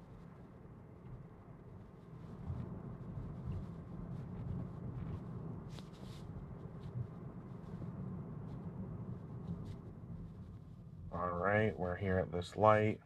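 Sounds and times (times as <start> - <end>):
road and tyre noise in car cabin: 0.0 - 13.0.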